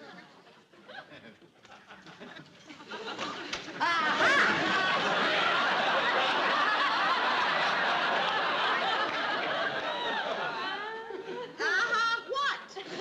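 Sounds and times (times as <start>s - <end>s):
audience laughing: 0.8s - 11.9s.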